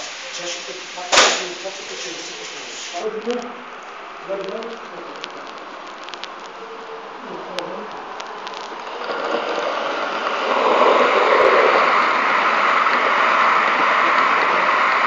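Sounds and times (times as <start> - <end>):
model train running on track: 0.0 - 3.0, 3.6 - 15.0.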